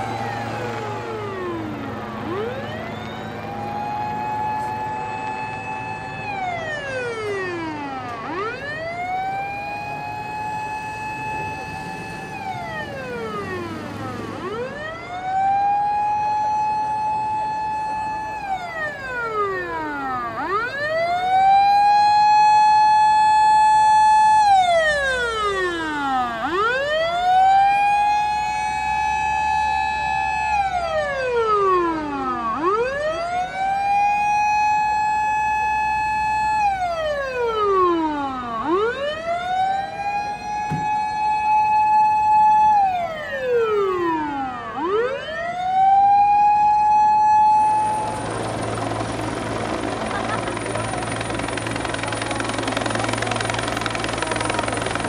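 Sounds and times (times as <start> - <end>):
fire truck siren wailing: 0.0 - 55.0.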